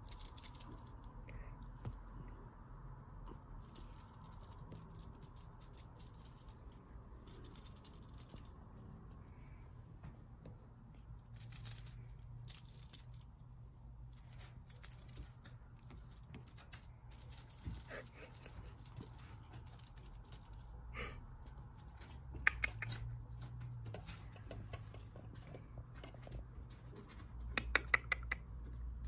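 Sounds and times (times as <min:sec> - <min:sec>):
kittens' claws scratching basket: 0:00.0 - 0:01.1, 0:03.2 - 0:08.7, 0:11.2 - 0:13.4, 0:14.0 - 0:29.0.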